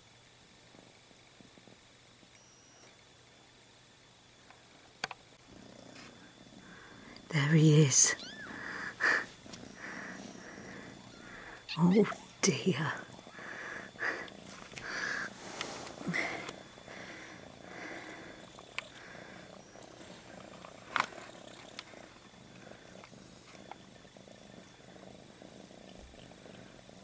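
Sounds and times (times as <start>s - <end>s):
cat purring: 0.7s - 2.7s, 5.4s - 27.0s.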